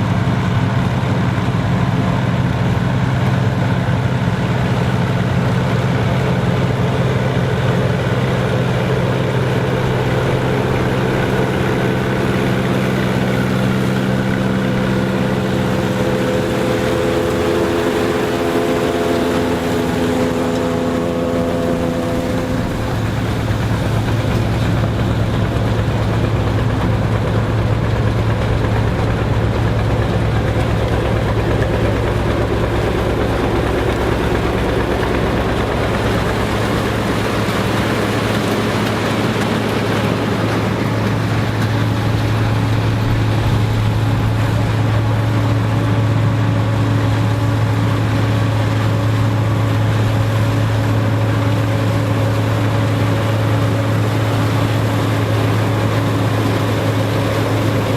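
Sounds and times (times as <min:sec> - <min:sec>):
farm machinery engine droning: 0:00.0 - 0:57.9.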